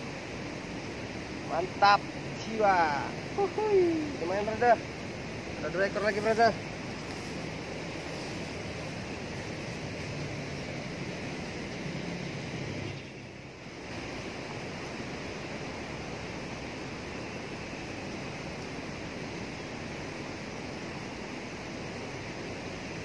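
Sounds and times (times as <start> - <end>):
fast water rushing: 0.0 - 23.0.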